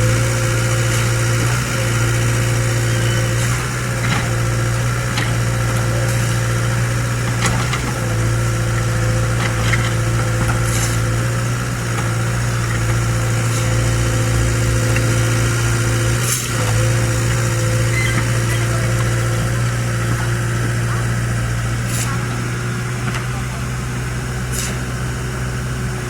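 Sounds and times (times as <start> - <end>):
excavator diesel engine humming: 0.0 - 26.0.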